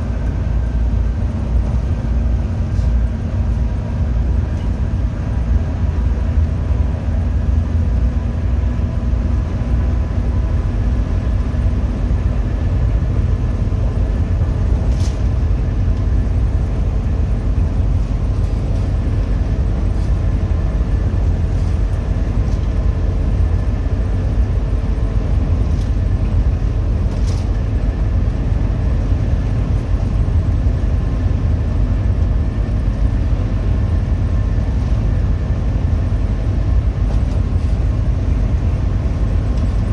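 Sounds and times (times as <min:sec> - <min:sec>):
diesel engine rumble: 0:00.0 - 0:39.9
road noise: 0:00.0 - 0:39.9.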